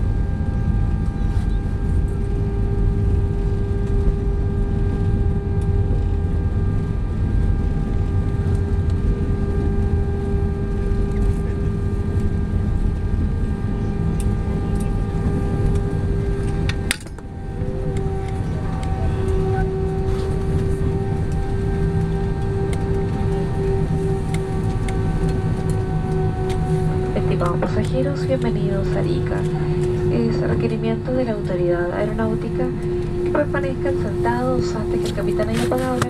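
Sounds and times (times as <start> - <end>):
engine and wheel rumble: 0.0 - 36.0
jet engine whine: 0.0 - 36.0.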